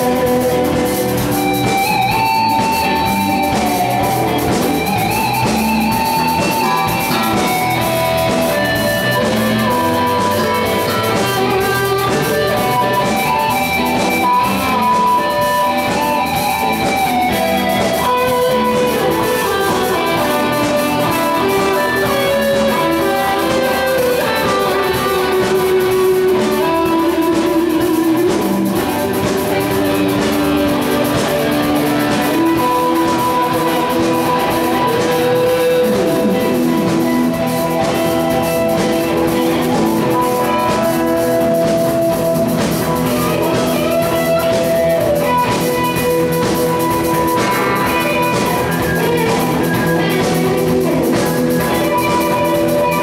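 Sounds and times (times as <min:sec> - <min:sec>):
bass guitar: 0:00.0 - 0:53.0
drum kit: 0:00.0 - 0:53.0
electric lead guitar melody: 0:00.0 - 0:53.0
rhythm guitar: 0:00.0 - 0:53.0.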